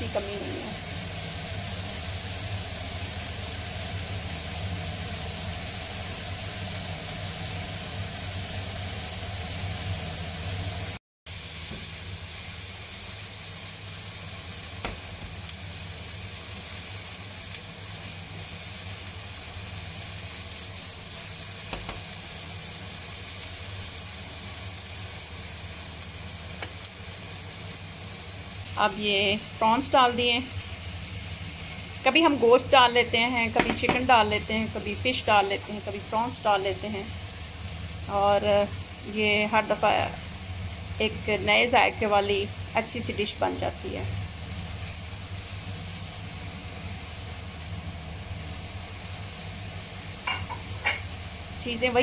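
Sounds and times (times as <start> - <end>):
vegetables sizzling in a frying pan: 0.0 - 52.0.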